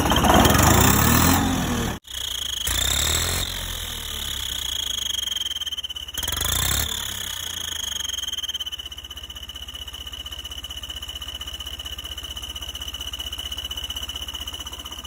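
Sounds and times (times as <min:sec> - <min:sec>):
tractor diesel engine chugging: 0:00.0 - 0:15.0
turbo whistle: 0:00.7 - 0:15.0.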